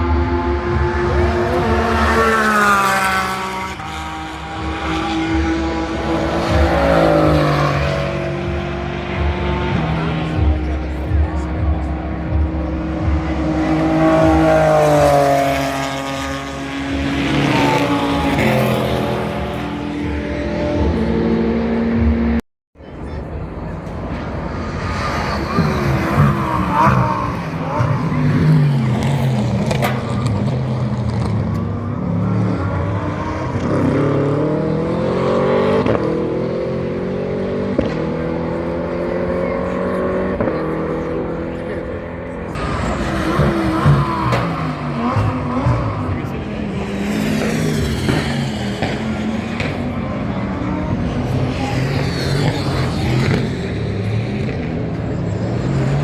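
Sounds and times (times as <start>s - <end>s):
drone of cars on track: 0.0s - 56.0s
race cars passing at speed: 0.0s - 56.0s.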